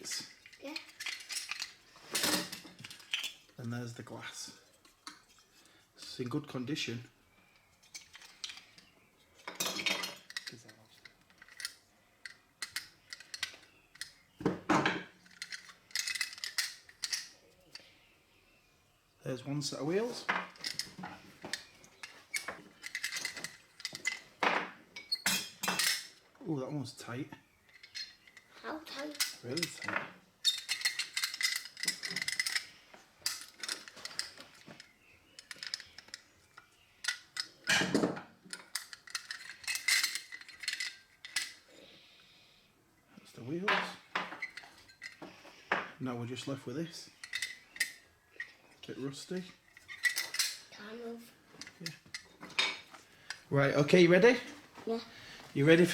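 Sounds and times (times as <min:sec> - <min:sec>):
small metal parts clinking: 0:00.0 - 0:18.0, 0:19.6 - 0:26.8, 0:27.4 - 0:41.9, 0:43.5 - 0:46.0, 0:46.9 - 0:50.8, 0:51.4 - 0:54.4.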